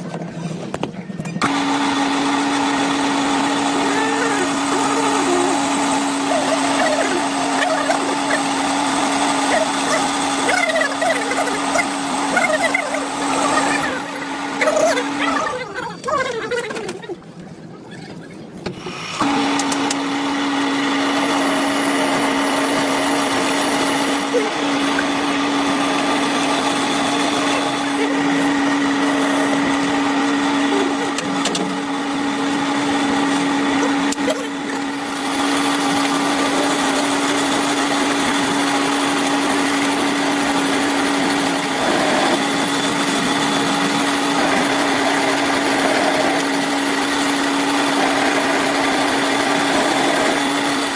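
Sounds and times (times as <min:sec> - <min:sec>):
workshop machine motor humming: 0:00.0 - 0:50.9.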